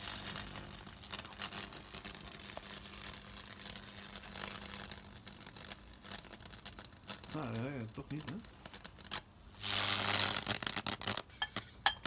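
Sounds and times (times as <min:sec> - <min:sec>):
electric arc crackling and sizzling: 0:00.0 - 0:12.0
low electrical hum: 0:00.0 - 0:12.0.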